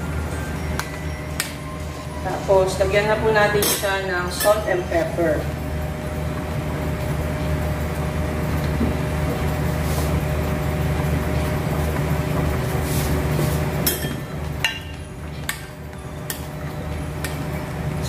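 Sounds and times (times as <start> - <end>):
gas burners rumbling: 0.0 - 18.0.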